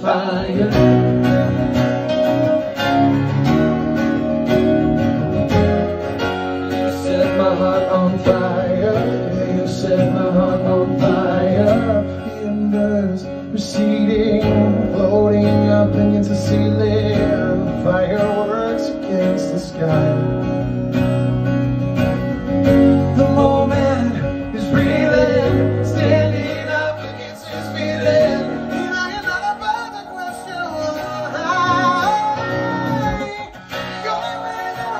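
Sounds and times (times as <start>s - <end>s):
man singing: 0.0s - 2.2s, 6.7s - 20.7s, 22.8s - 34.9s
acoustic guitar strummed: 0.0s - 34.9s.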